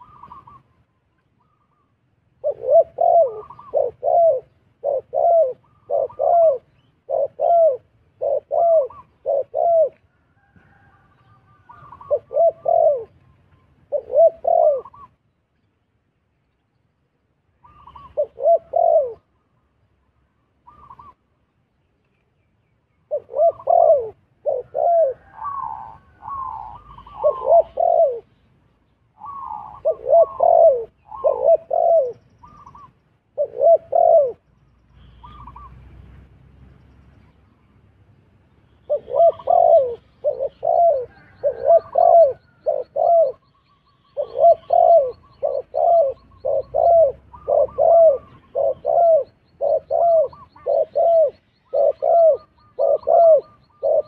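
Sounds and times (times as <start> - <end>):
doves cooing: 0.0 - 15.3, 17.6 - 19.4, 20.6 - 21.3, 23.1 - 28.4, 29.1 - 35.9, 38.8 - 54.0.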